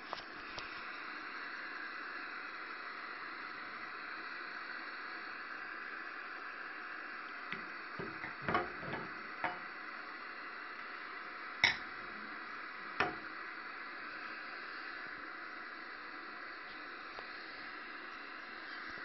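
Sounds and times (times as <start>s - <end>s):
static hiss from tv speaker: 0.0s - 19.0s.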